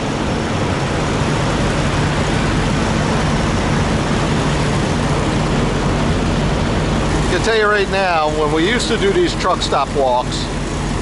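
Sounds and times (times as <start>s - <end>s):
diesel truck engines idling: 0.0s - 11.0s
engine fan rushing: 0.0s - 11.0s.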